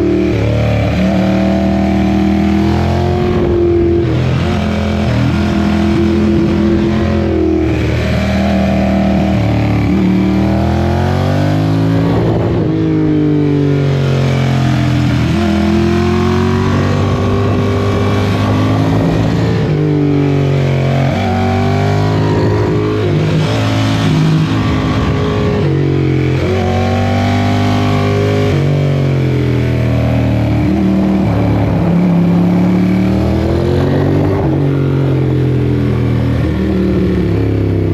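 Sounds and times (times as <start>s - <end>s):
vehicle engine revving: 0.0s - 37.9s.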